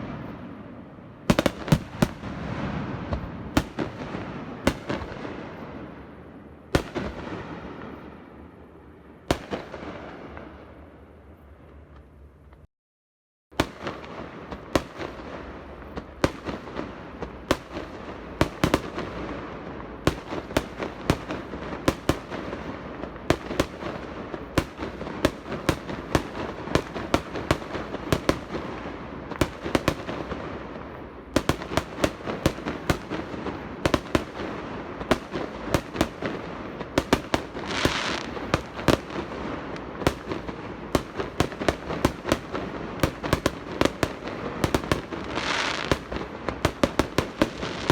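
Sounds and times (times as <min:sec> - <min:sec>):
fireworks crackling: 0:00.0 - 0:08.5, 0:13.6 - 0:47.9
fireworks bangs: 0:00.0 - 0:11.0, 0:13.6 - 0:47.9.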